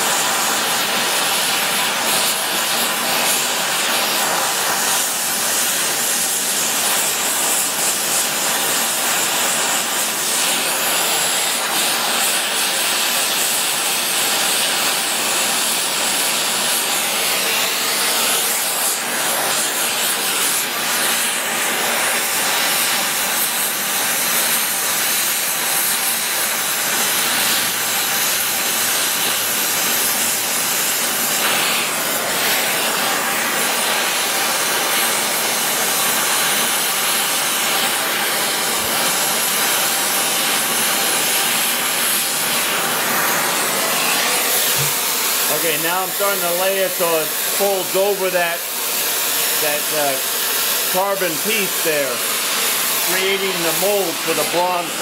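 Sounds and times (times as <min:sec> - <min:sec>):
torch flame hissing: 0:00.0 - 0:55.0.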